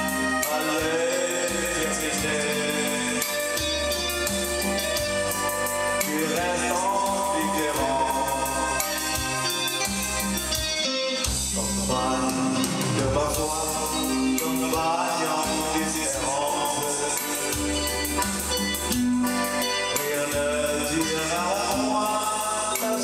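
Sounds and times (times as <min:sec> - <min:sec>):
man singing into a microphone: 0:00.0 - 0:10.3, 0:11.3 - 0:18.6, 0:19.5 - 0:23.0
electric guitar: 0:00.0 - 0:23.0
electronic keyboard: 0:00.0 - 0:23.0.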